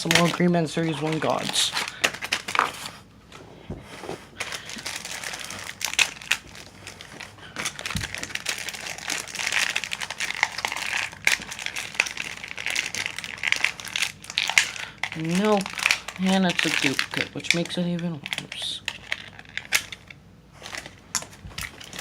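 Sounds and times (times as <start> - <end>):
packaging crinkling: 0.0 - 3.0, 3.8 - 22.0.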